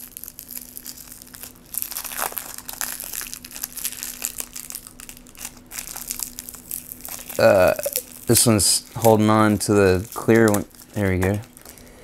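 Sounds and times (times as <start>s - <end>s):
cellophane wrapper crinkling: 0.0s - 12.0s.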